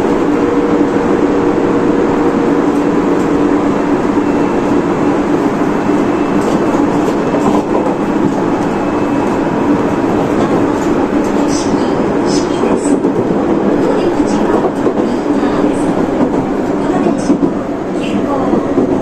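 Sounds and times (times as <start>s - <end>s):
train wheel and rail rumble: 0.0s - 19.0s.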